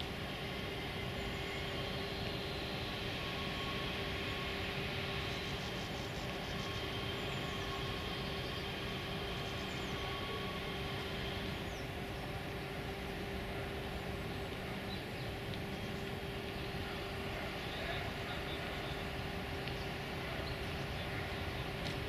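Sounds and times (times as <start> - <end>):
distant city traffic rumble: 0.0 - 22.0
faint constant hums: 0.0 - 22.0.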